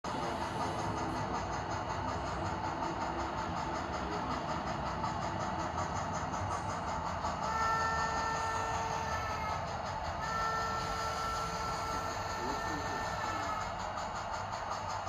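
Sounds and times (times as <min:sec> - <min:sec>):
steam exhaust chuff: 0:00.1 - 0:15.0.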